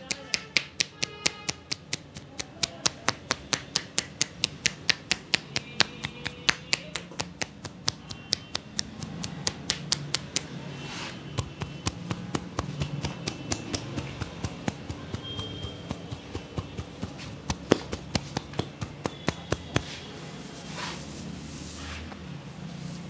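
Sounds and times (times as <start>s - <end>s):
palms patting head: 0.0s - 10.6s, 11.2s - 20.1s.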